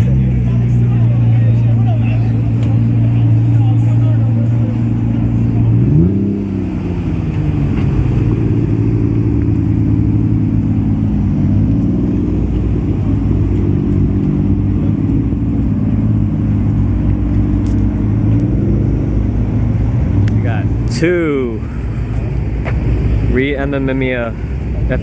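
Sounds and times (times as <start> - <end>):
car engines idling: 0.0 - 25.0.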